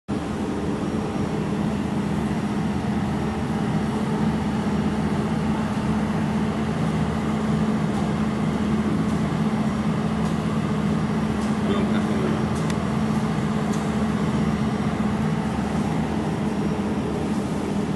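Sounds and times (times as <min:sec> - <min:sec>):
machine cooling fan hum: 0:00.1 - 0:17.9.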